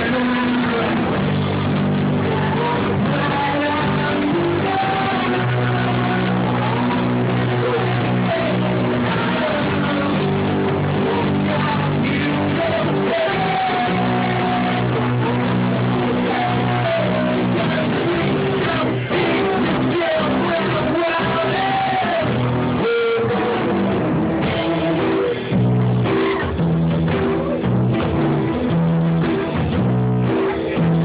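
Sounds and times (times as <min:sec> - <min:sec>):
person singing: 0:00.0 - 0:27.7
guitar: 0:00.0 - 0:31.0
live rock band: 0:00.0 - 0:31.0.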